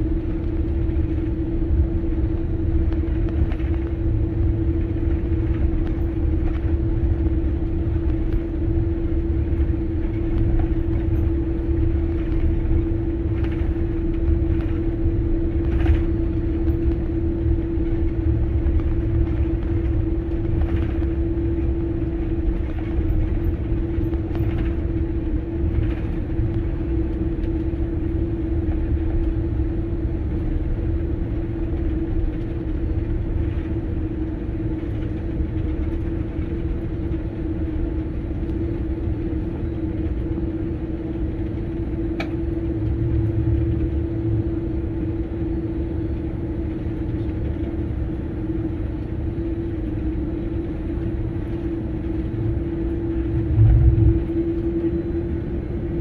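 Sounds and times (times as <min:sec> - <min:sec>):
jet engines humming: 0:00.0 - 0:56.0
low rumble of rolling aircraft: 0:00.0 - 0:56.0.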